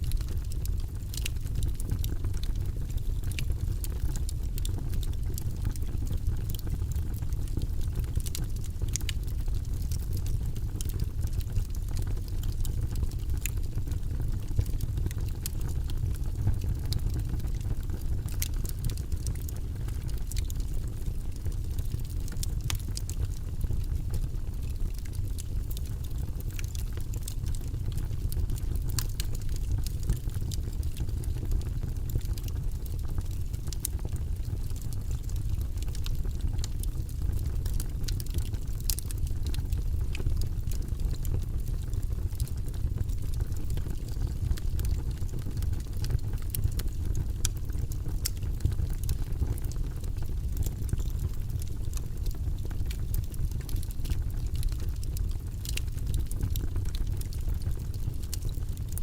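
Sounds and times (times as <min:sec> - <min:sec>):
wood logs crackling in fireplace: 0:00.0 - 0:59.0.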